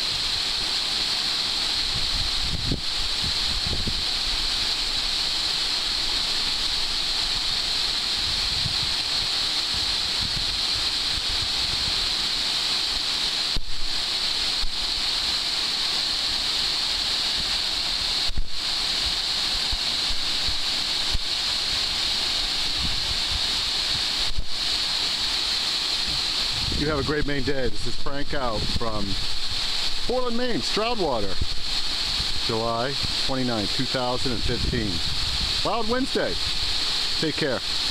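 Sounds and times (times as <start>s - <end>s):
waterfall rushing onto rocks: 0.0s - 37.9s.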